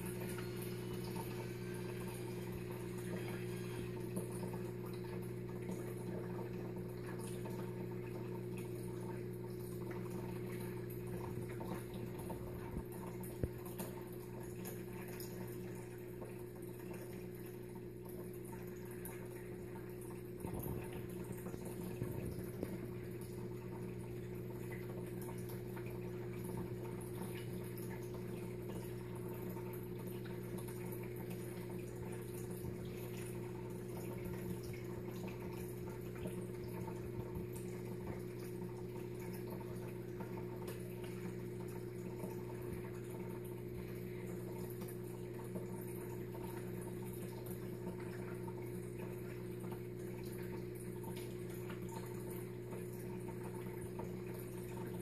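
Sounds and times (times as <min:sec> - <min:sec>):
faint watery trickle: 0:00.0 - 0:55.0
steady low hum: 0:00.0 - 0:55.0.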